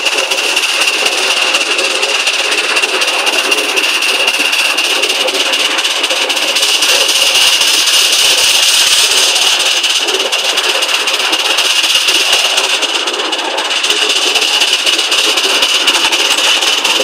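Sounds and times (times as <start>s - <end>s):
fast even clatter: 0.0s - 17.0s
model steam locomotive hissing: 0.0s - 17.0s.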